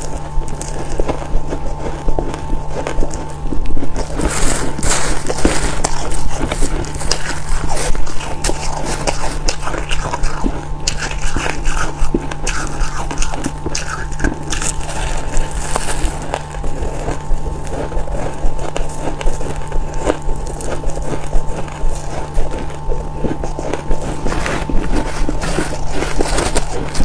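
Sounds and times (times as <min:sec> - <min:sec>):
crunching frost being chewed: 0:00.0 - 0:27.0
steady low hum: 0:00.0 - 0:27.0.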